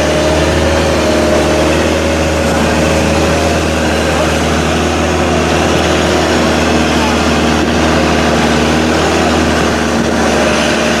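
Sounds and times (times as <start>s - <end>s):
motorboat engine running: 0.0s - 11.0s
rushing wind: 0.0s - 11.0s
water rushing: 0.0s - 11.0s.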